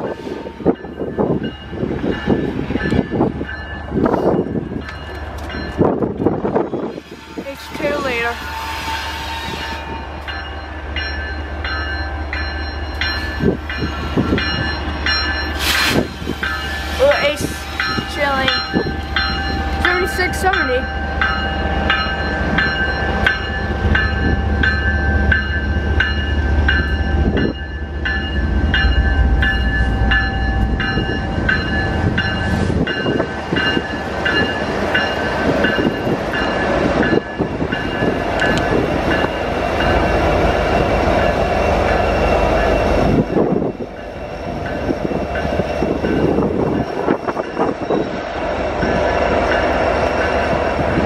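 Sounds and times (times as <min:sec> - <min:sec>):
train wheels clattering on rails: 0:00.0 - 0:08.4, 0:09.5 - 0:51.0
diesel locomotives rumbling: 0:00.0 - 0:51.0.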